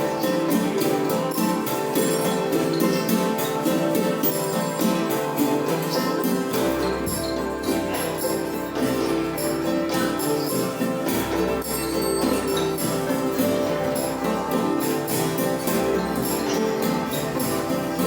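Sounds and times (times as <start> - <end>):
jingling metal percussion: 0.0 - 18.0
struck or plucked notes: 0.0 - 18.0.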